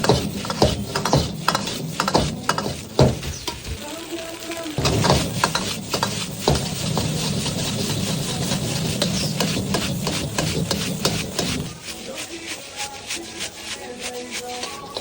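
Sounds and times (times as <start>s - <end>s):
food sizzling: 0.0s - 15.0s
spatula scraping and tapping wok: 0.0s - 15.0s.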